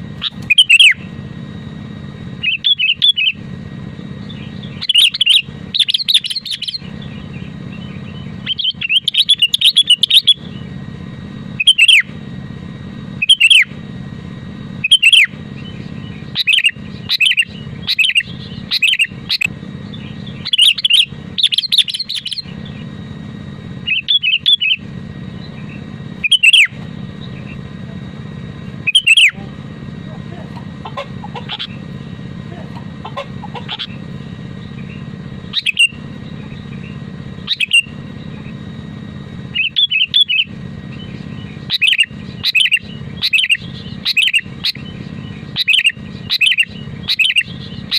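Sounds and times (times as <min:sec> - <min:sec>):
bulbul singing chirpy notes: 0:00.0 - 0:47.9
steady low hum: 0:00.0 - 0:47.9.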